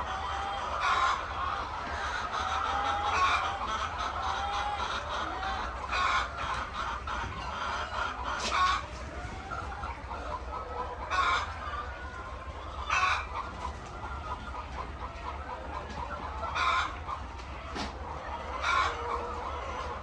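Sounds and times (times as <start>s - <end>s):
chickens calling: 0.0s - 20.0s.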